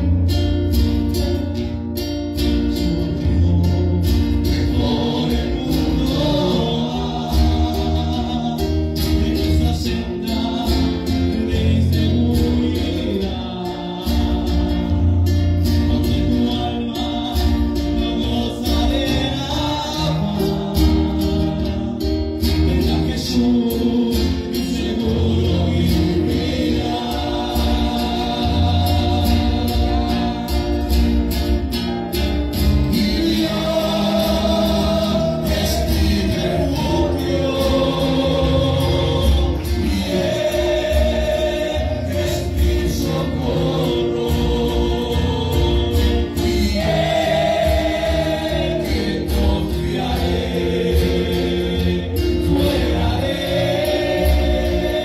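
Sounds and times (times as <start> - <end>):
strummed acoustic guitar: 0.0 - 55.0
man singing into a microphone: 2.7 - 55.0
voices singing along: 4.2 - 55.0.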